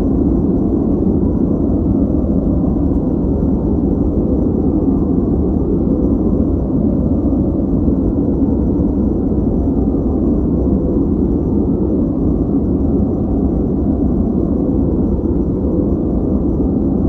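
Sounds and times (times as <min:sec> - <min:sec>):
deep rumbling noise: 0:00.0 - 0:17.0.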